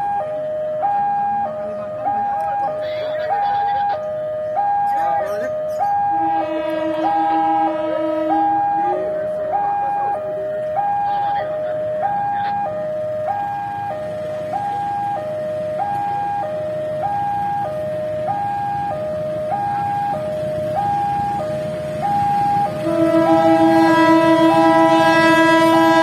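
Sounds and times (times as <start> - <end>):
diesel locomotive rumble: 0.0 - 26.0
two-tone electronic warning alarm: 0.0 - 26.0.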